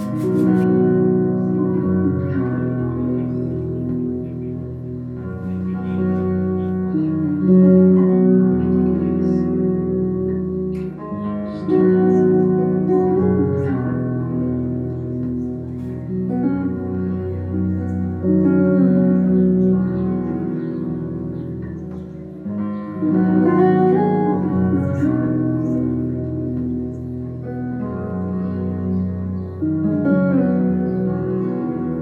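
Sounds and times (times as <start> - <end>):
guitar background music: 0.0 - 32.0.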